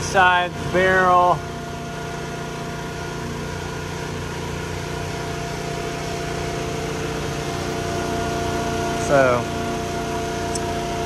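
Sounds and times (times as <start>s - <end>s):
machine hum with whining tones: 0.0s - 11.0s.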